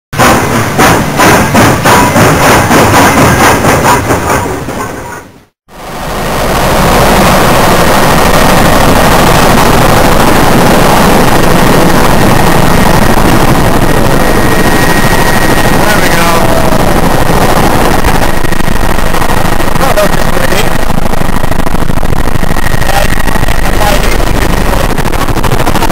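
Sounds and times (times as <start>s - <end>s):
helicopter rotor and turbine: 0.2s - 5.1s, 5.7s - 25.9s.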